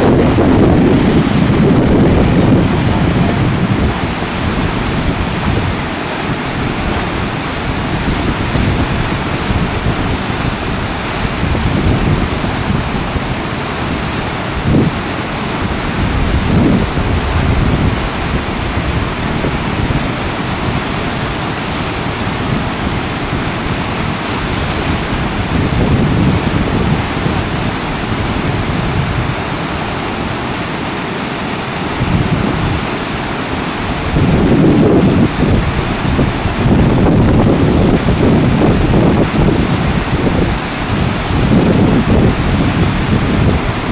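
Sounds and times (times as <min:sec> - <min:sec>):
whitewater rapids rushing: 0:00.0 - 0:43.9
wind buffeting microphone: 0:00.0 - 0:43.9.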